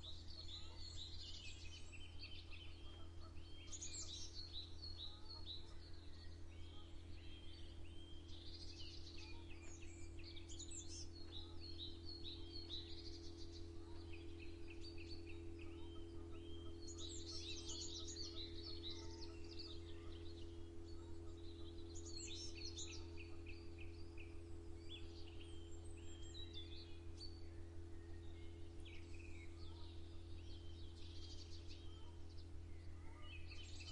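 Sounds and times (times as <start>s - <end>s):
songbirds chirping: 0.0s - 33.9s
steady low hum: 0.0s - 33.9s.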